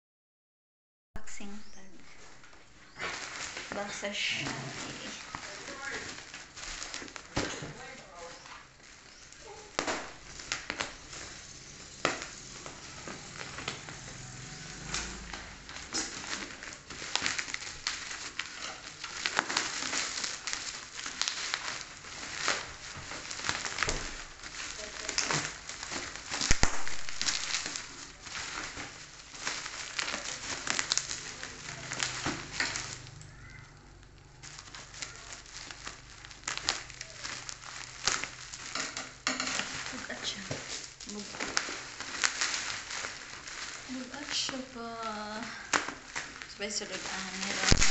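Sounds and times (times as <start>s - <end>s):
plastic wrapping crinkling: 1.3s - 47.9s.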